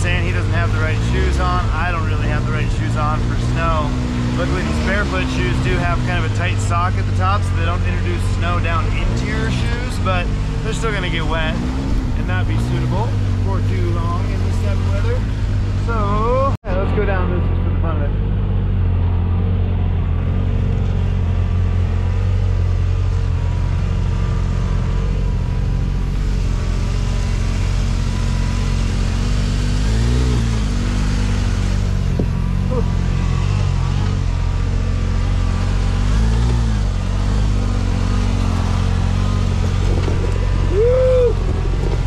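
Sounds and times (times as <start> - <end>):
off-road vehicle engine running: 0.0 - 42.0.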